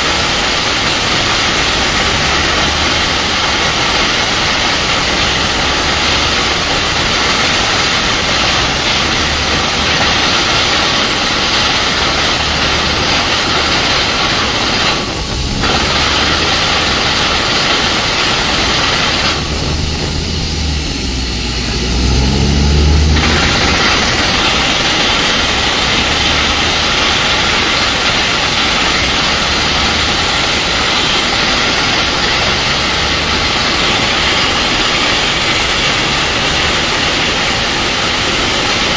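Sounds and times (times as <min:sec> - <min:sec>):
diesel engine and compressor drone: 0:00.0 - 0:38.9
loud steady hiss: 0:00.0 - 0:38.9.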